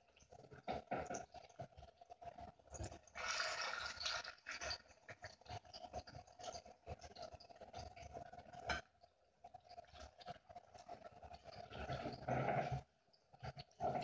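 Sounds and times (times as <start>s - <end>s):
fruit frying in bubbling syrup: 0.0s - 14.0s.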